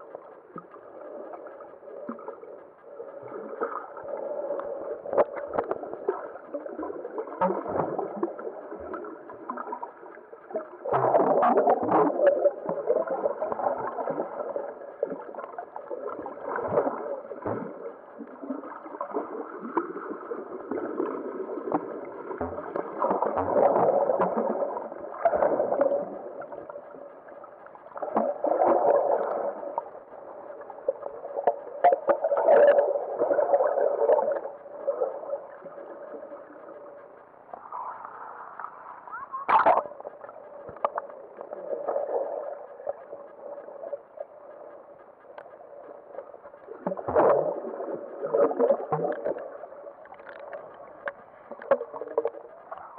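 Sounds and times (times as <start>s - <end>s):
faint steady hum: 0.0s - 52.9s
underwater water sloshing: 0.0s - 52.9s.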